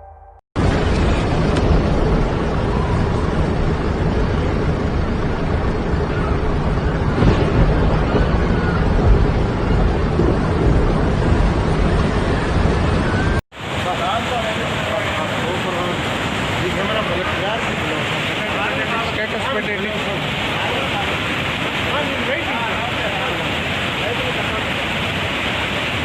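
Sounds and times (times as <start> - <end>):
loud steady rushing noise: 0.6 - 26.0.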